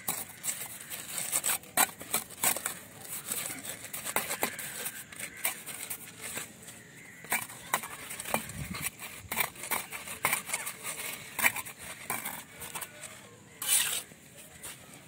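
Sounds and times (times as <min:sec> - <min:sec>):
trowel scraping bricks and mortar: 0:00.0 - 0:15.0.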